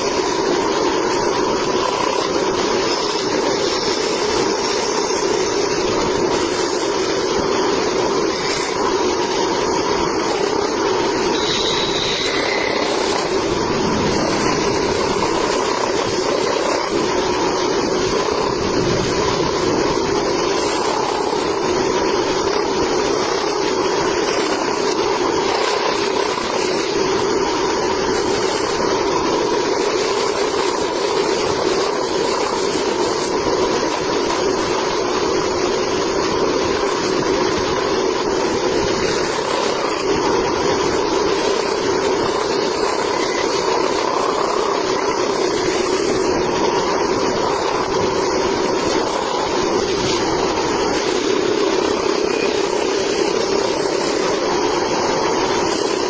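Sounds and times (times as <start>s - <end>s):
band saw running: 0.0s - 56.0s.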